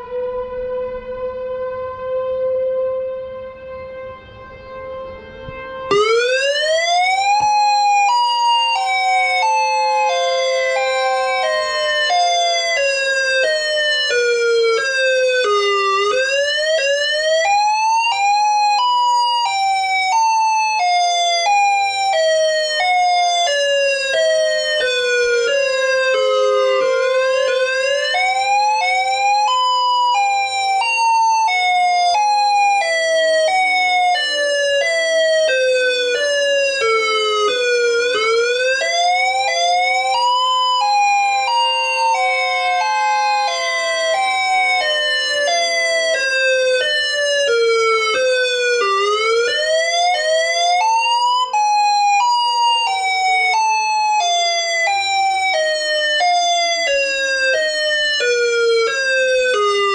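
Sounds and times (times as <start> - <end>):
steady siren alert tone: 0.0 - 1.5, 2.3 - 59.9
electronic siren wailing: 4.3 - 59.9.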